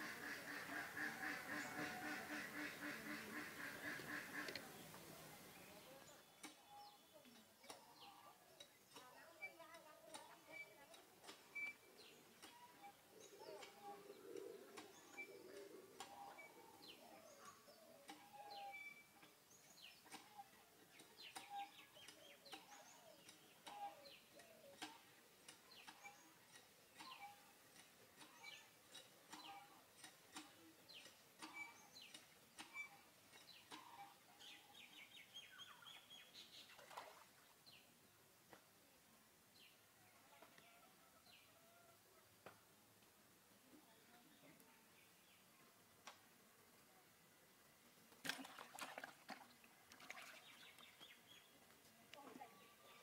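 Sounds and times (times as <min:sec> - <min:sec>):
faint birdsong chirps: 0:00.0 - 0:42.8, 0:43.5 - 0:48.0, 0:49.0 - 0:53.0.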